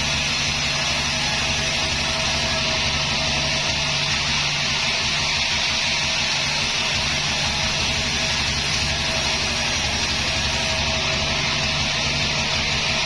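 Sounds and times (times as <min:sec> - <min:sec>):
loud machine hiss: 0:00.0 - 0:13.0
sawmill engine drone: 0:00.0 - 0:13.0.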